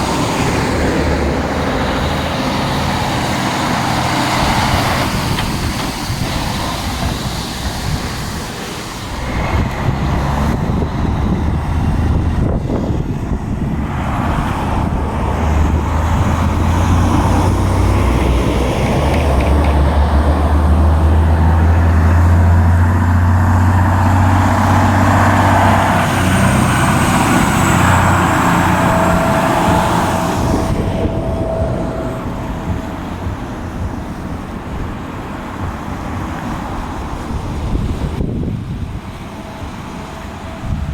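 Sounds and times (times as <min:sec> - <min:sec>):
road traffic noise: 0:00.0 - 0:40.9
truck diesel engine passing: 0:00.0 - 0:40.9.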